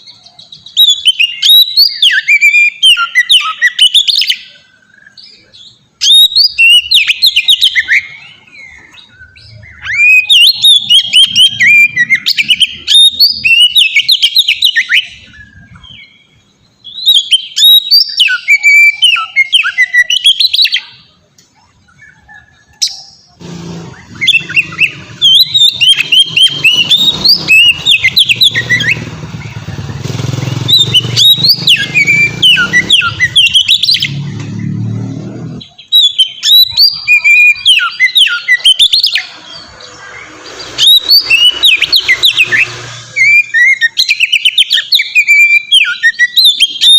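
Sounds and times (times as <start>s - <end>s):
bird singing whistles and chirps: 0.0s - 46.9s.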